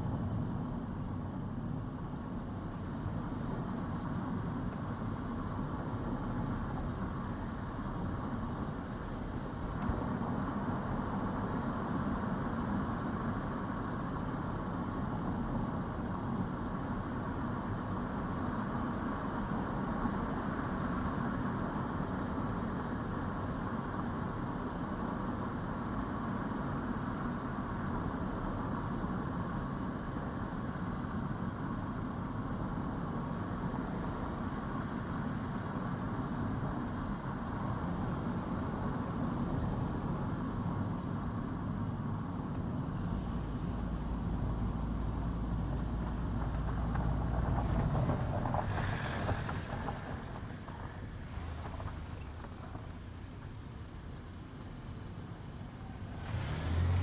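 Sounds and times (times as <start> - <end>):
car driving on road: 0.0 - 57.0.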